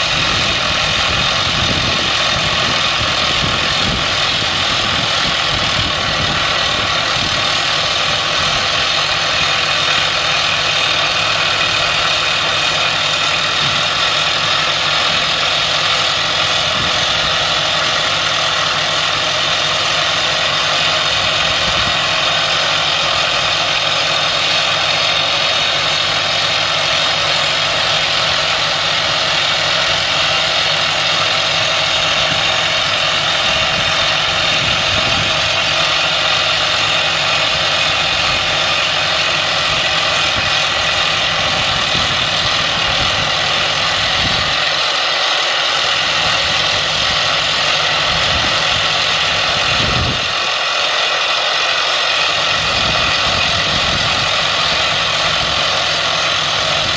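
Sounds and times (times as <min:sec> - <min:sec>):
compressed air blowing: 0:00.0 - 0:56.9
rock drill drilling into rock: 0:00.0 - 0:56.9.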